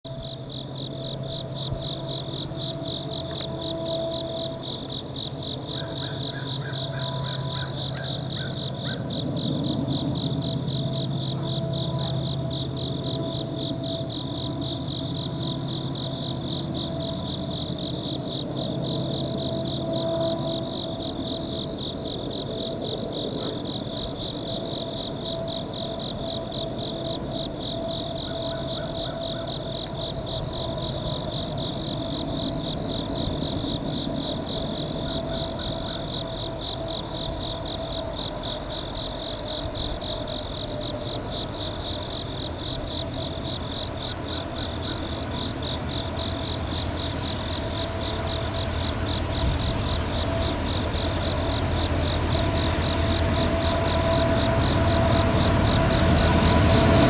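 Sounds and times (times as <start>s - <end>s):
freight train rumble: 0.1s - 57.0s
insect chorus trilling: 0.1s - 57.0s.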